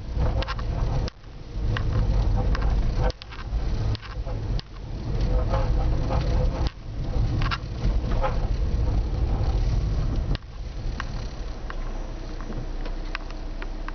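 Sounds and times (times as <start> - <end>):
car low rumble: 0.0 - 13.9.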